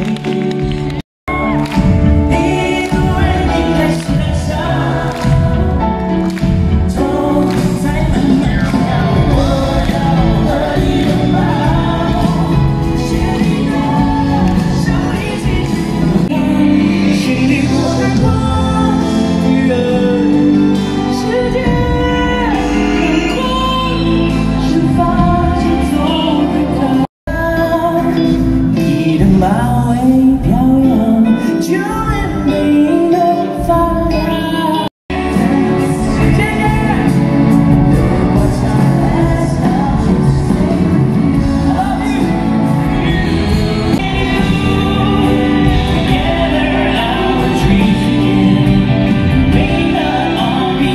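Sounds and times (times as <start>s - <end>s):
band and string section playing: 0.0s - 50.9s
man singing: 1.3s - 50.9s.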